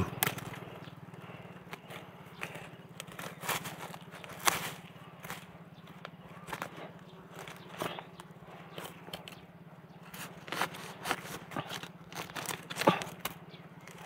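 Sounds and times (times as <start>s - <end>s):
dry bamboo crackling and snapping: 0.0s - 14.0s.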